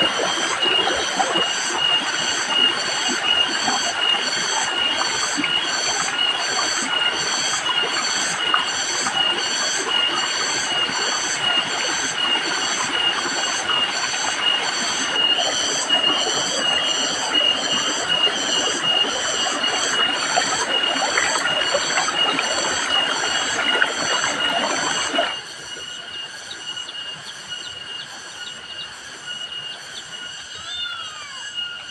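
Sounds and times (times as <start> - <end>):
cicadas singing: 0.0 - 31.9.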